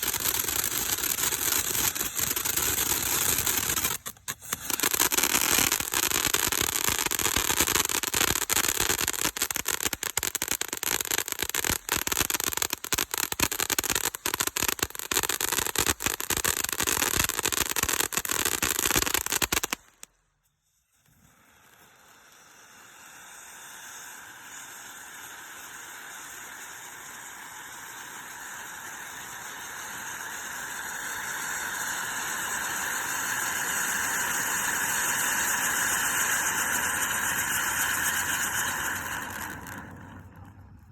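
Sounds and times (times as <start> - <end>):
firework crackling: 0.0 - 40.9
steady hiss: 0.0 - 40.9.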